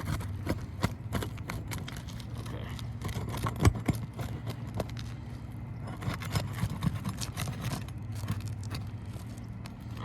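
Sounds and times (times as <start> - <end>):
shingles scraping and clicking: 0.0 - 10.0
steady low hum: 0.0 - 10.0.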